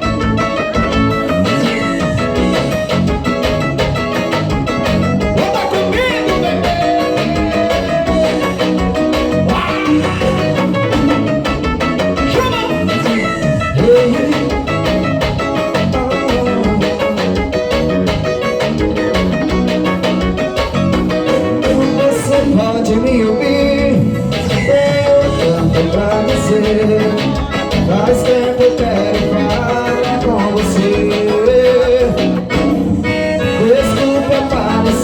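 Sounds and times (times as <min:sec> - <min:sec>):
live band dance music: 0:00.0 - 0:35.0.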